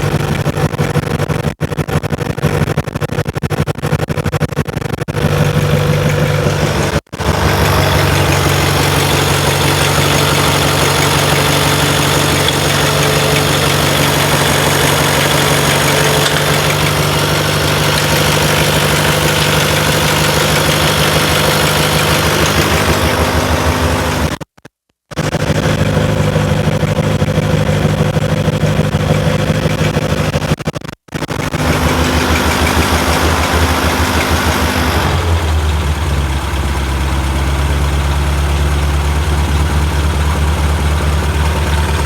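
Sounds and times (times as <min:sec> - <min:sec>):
car engine idling: 0:00.0 - 0:24.4, 0:25.2 - 0:30.6, 0:31.2 - 0:42.0.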